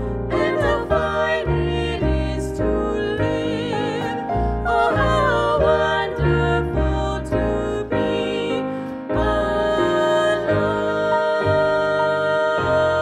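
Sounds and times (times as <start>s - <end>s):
piano: 0.0s - 13.0s
upright double bass: 0.0s - 13.0s
women singing in harmony: 0.1s - 13.0s.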